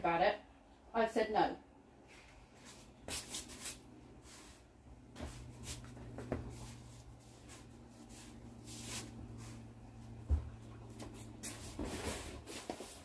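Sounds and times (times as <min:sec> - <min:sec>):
steady low hum: 0:00.4 - 0:13.0.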